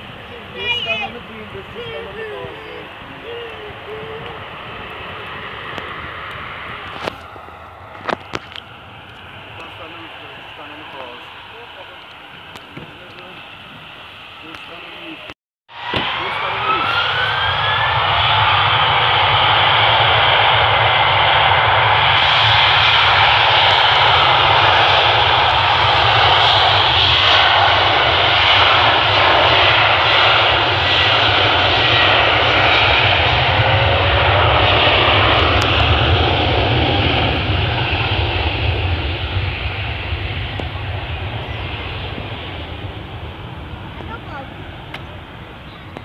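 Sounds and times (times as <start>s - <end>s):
aeroplane engines at take-off: 0.0s - 46.0s.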